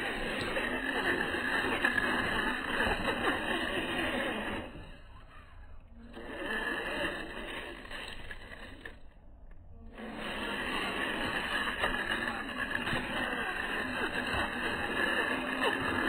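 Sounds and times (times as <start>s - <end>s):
deep rasping motor drone: 0.0s - 8.9s, 9.7s - 16.0s.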